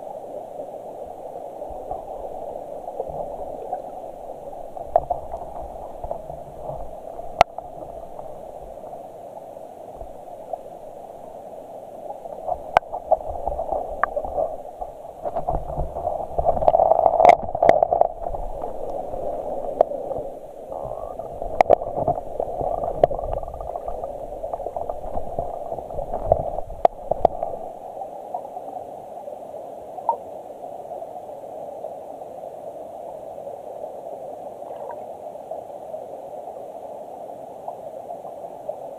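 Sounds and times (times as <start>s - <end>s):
stream water heard underwater: 0.0s - 38.9s.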